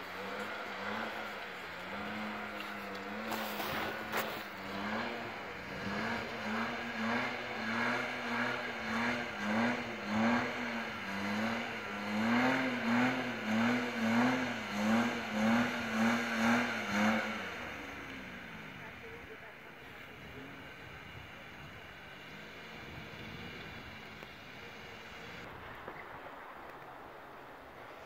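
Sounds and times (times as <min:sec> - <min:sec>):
engine revving: 0:00.0 - 0:25.6.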